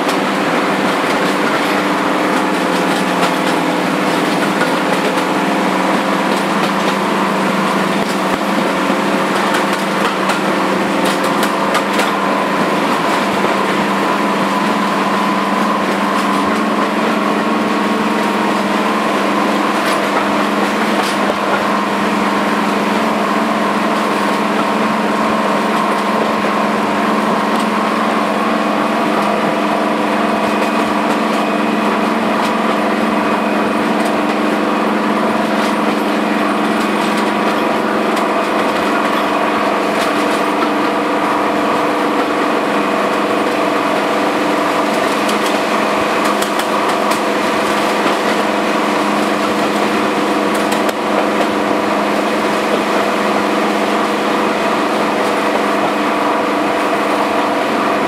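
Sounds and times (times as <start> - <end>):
locomotive diesel engine drone: 0.0 - 58.0.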